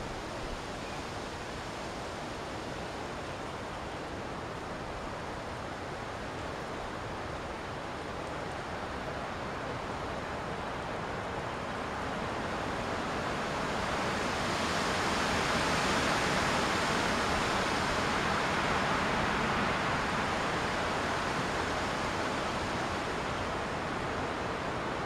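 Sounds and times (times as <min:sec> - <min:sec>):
wind rushing through trees: 0:00.0 - 0:25.0.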